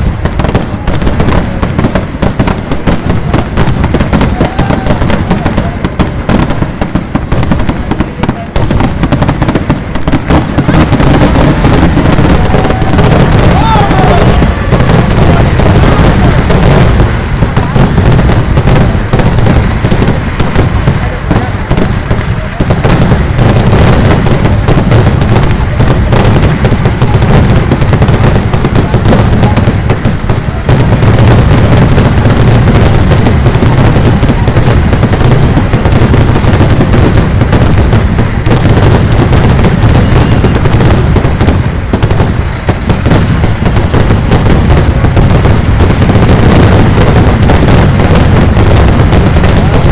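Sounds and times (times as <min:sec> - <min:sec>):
firecracker barrage: 0:00.0 - 0:49.9.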